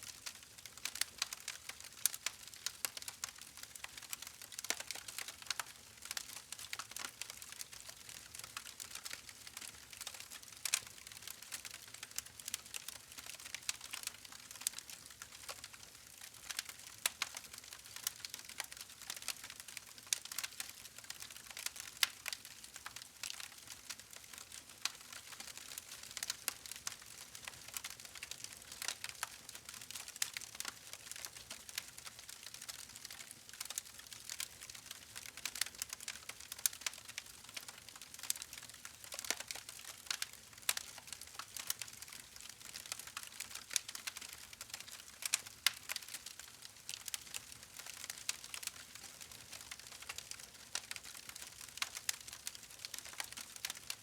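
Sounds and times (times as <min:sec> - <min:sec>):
wood fire crackling: 0:00.2 - 0:54.0.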